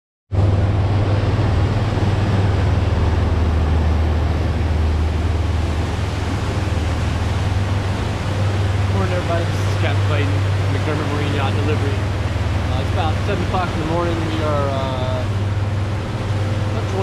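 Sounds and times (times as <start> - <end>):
boat engine drone: 0.3 - 17.0
wind and water rushing: 0.3 - 17.0.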